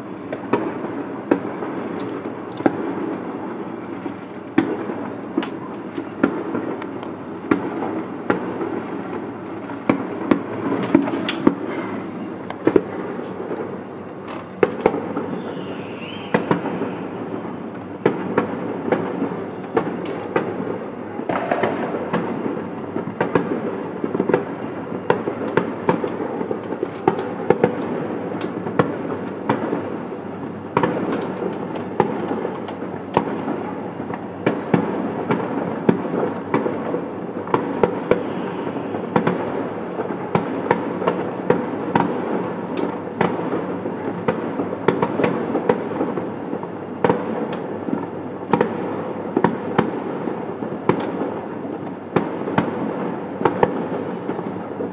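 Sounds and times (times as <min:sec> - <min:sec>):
distant fireworks rumble: 0:00.0 - 0:54.9
firecracker cracks and bangs: 0:00.0 - 0:54.9.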